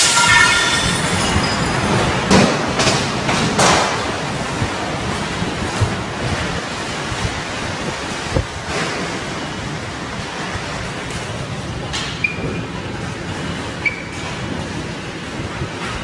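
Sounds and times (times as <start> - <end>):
storm wind rushing: 0.0 - 16.0.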